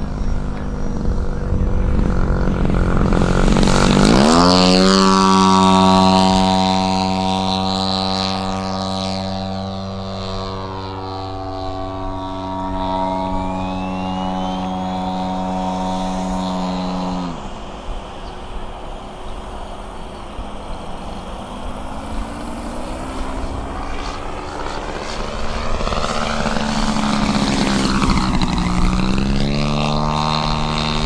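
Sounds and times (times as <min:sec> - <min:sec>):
model plane engine and propeller: 0:00.0 - 0:31.0.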